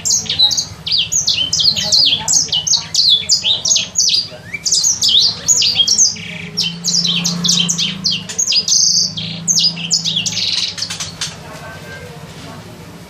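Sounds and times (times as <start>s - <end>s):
songbird chirping: 0.0s - 12.2s
steady low hum: 0.0s - 13.0s.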